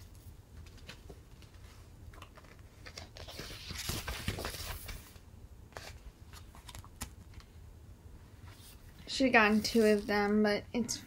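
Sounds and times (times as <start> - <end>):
paper sheets rustling: 0.1 - 7.5, 8.5 - 10.4.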